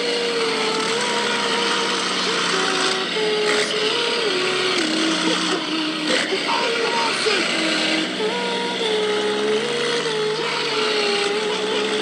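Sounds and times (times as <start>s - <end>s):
droning tone: 0.0s - 12.0s
truck engine and road noise: 0.0s - 12.0s.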